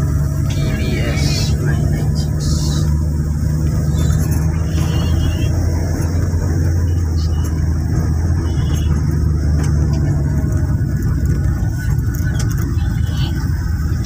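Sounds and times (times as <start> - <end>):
road traffic engines rumbling: 0.0 - 14.0.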